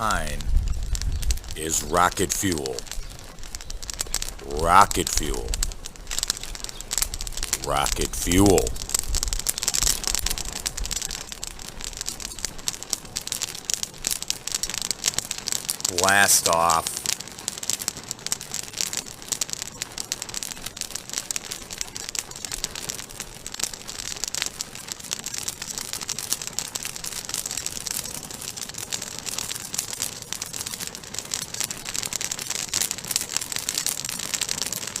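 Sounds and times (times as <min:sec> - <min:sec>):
campfire crackling: 0:00.0 - 0:35.0.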